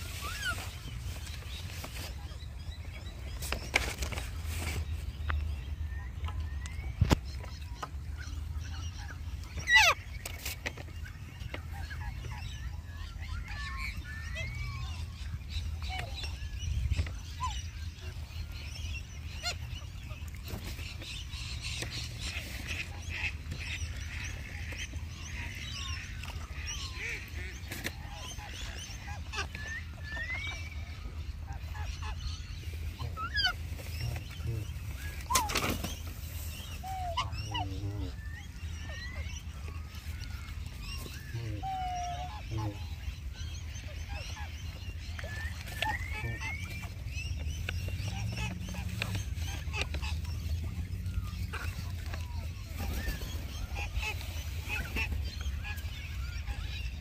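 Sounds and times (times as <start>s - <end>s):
birds chirping and whistling: 0.0s - 57.0s.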